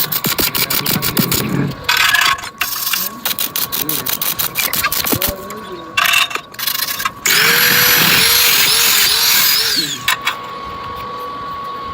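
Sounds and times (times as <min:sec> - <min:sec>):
power tool motor whining: 0:00.0 - 0:11.9.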